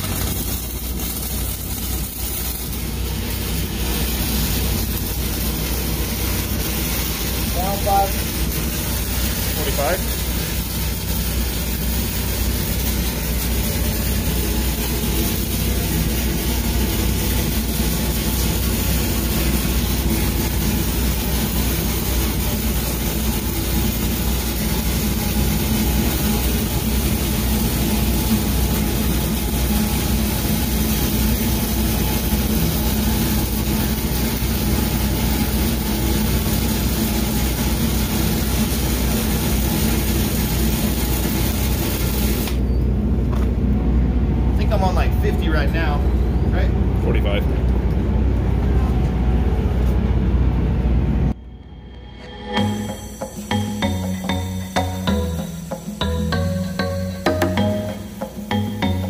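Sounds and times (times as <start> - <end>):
welding arc crackling: 0.0 - 42.7, 52.4 - 59.0
engine drone: 0.0 - 59.0.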